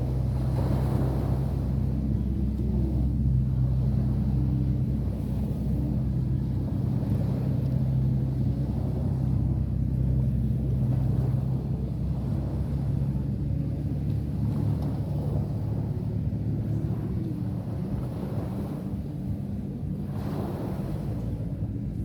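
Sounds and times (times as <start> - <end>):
engine humming steadily: 0.0 - 22.0.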